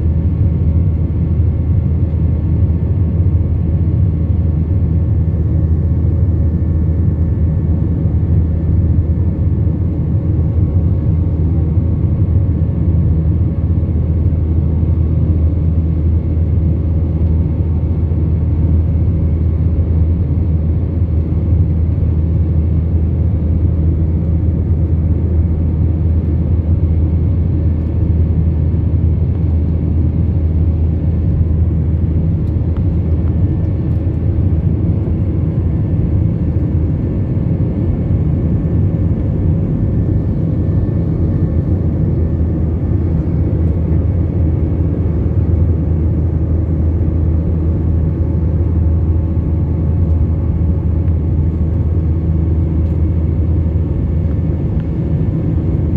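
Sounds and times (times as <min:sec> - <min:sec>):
airflow in cabin: 0:00.0 - 0:55.9
jet engines: 0:00.0 - 0:55.9.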